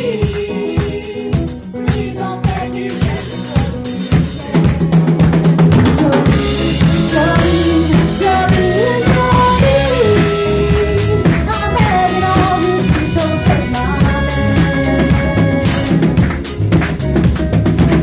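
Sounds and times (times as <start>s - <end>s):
drum kit beat: 0.0s - 18.0s
live band playing: 0.0s - 18.0s
sliding lead melody: 0.0s - 18.0s.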